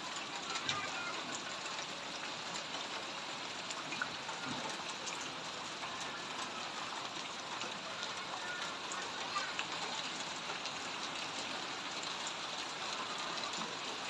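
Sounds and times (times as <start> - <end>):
rain falling on water: 0.0 - 14.0.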